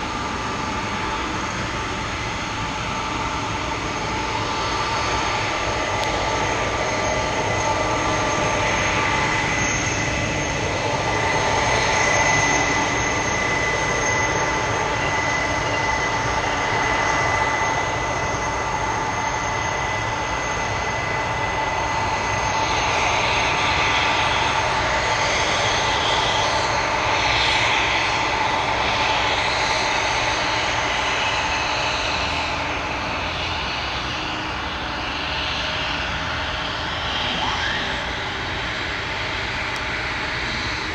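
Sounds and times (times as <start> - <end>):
jet engines running: 0.0 - 40.9.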